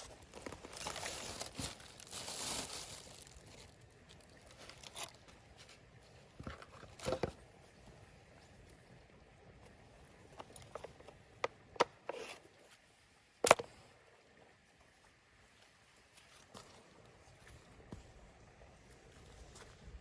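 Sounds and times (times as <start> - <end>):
rustling and handling noises: 0.0 - 8.9, 9.6 - 13.9, 15.5 - 20.0.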